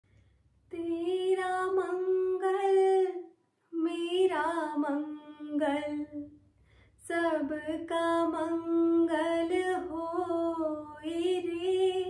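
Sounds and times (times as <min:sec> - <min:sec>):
woman singing unaccompanied: 0:00.7 - 0:06.3, 0:07.0 - 0:12.0.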